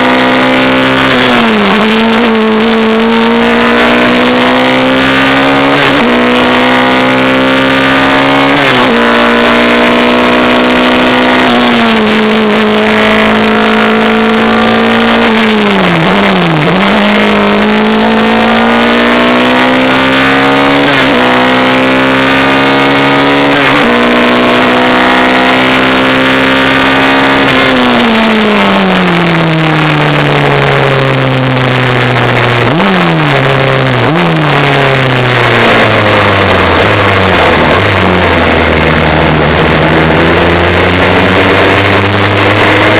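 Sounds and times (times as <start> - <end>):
race car engine accelerating: 0.0 - 42.9.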